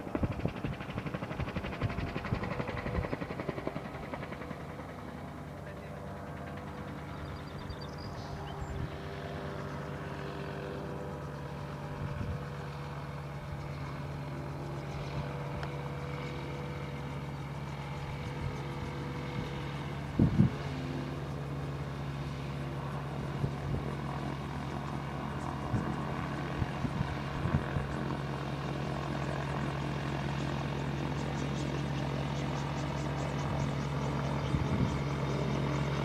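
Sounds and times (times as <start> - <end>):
gyrocopter engine humming: 0.0 - 36.0.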